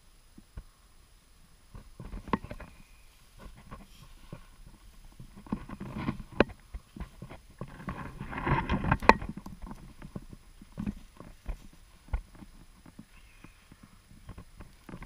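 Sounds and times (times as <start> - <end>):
brushing through dry weeds: 1.8 - 15.0
footsteps crunching on snow: 1.8 - 15.0.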